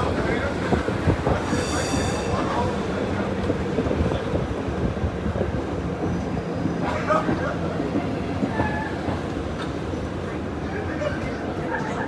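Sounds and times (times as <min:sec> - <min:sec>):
streetcar rolling on rails: 0:00.0 - 0:12.0.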